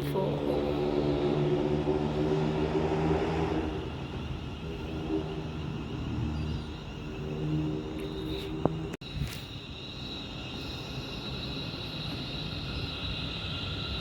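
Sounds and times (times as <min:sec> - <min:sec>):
rumble of train wheels on track: 0:00.0 - 0:14.0
train hum: 0:00.0 - 0:14.0.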